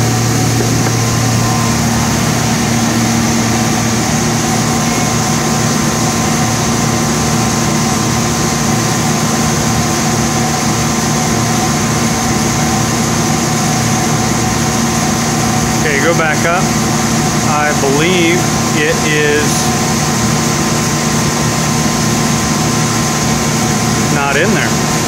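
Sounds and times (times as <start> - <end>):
machine spindles humming: 0.0 - 25.0.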